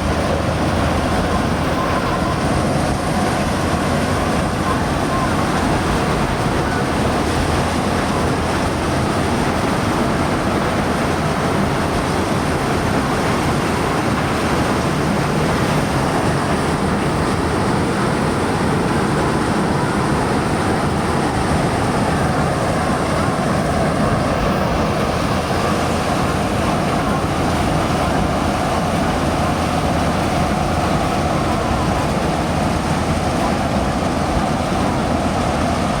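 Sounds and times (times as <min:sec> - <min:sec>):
combine harvester running: 0:00.0 - 0:36.0.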